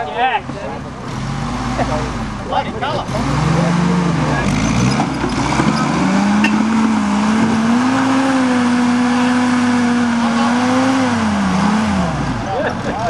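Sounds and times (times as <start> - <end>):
engine running at high revs: 1.0 - 13.0.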